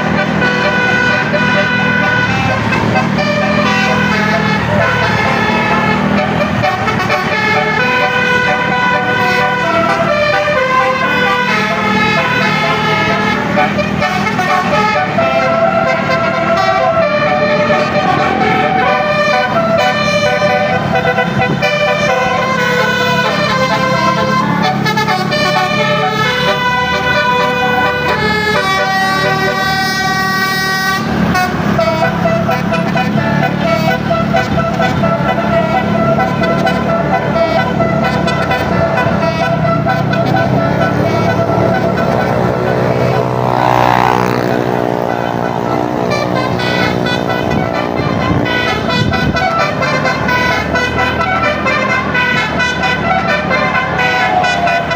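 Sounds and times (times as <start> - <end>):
bus engine rumble: 0.0 - 54.9
multi-tone bus horn melody: 0.0 - 54.9.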